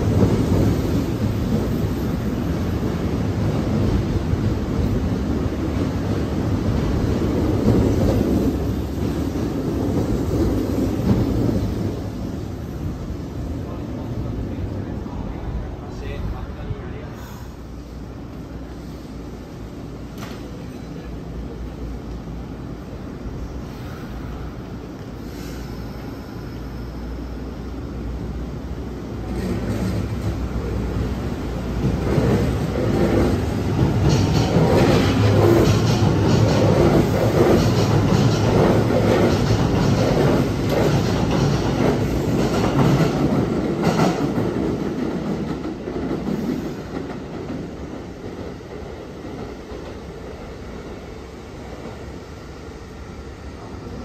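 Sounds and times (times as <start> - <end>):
train rumbling slowly: 0.0 - 54.0.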